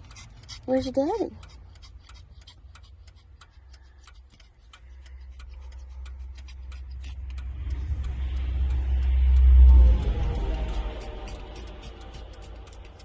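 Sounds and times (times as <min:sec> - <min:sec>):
hazard flasher ticking: 0:00.0 - 0:13.0
low rumble: 0:01.8 - 0:13.0.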